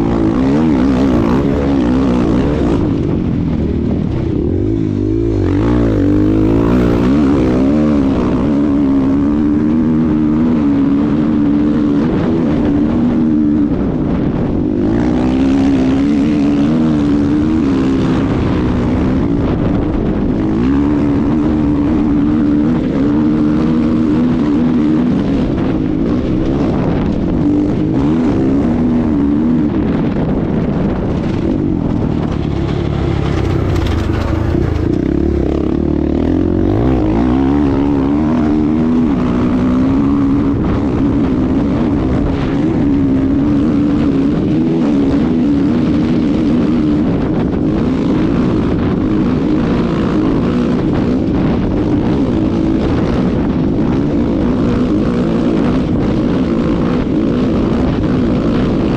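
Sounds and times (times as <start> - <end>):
dirt bike engine revving: 0.0 - 58.9
wind noise: 0.0 - 58.9.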